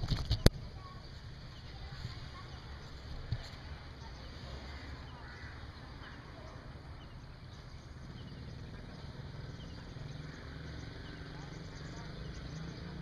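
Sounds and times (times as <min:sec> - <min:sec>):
low steady rumble: 0:00.0 - 0:13.0
faint bird chirps: 0:00.6 - 0:13.0.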